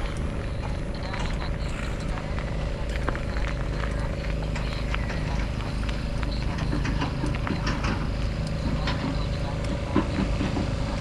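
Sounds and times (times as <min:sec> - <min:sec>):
bicycle ride rumble: 0:00.0 - 0:11.0.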